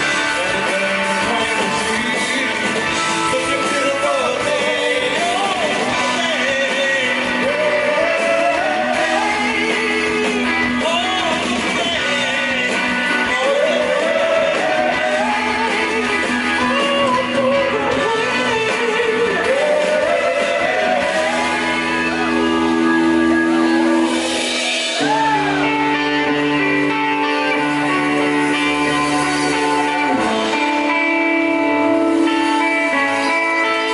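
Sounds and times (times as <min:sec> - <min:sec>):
blues-rock band playing: 0:00.0 - 0:33.9.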